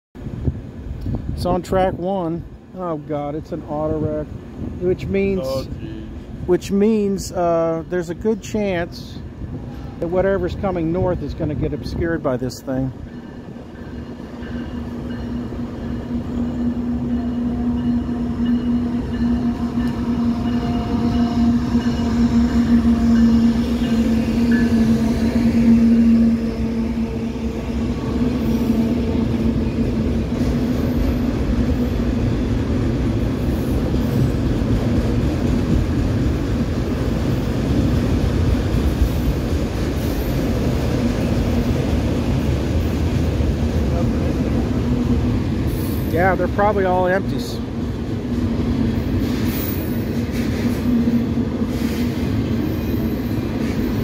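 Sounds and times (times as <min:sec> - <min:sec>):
diesel locomotive engine drone: 0:00.2 - 0:54.0
train cars rumbling on rails: 0:00.2 - 0:54.0.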